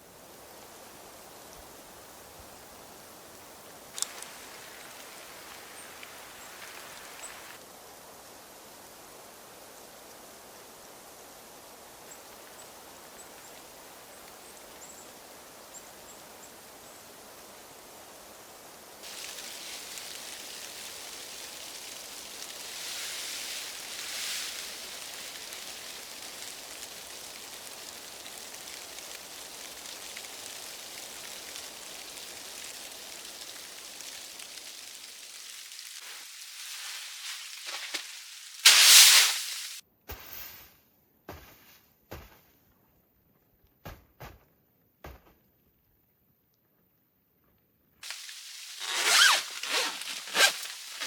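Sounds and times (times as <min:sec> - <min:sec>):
snow hissing on tent fabric: 0:00.0 - 0:39.8, 0:48.0 - 0:51.0.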